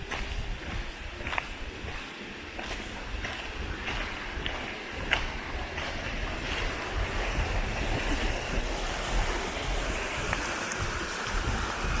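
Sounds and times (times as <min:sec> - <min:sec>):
rushing creek water: 0:00.0 - 0:12.0
wind buffeting microphone: 0:00.0 - 0:12.0.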